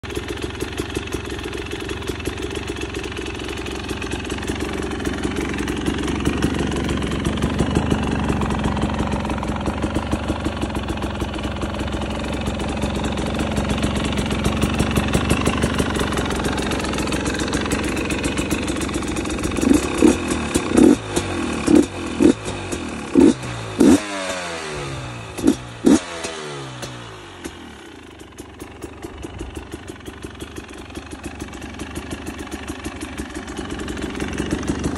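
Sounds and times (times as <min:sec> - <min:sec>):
two-stroke engine idling and revving: 0:00.0 - 0:34.9.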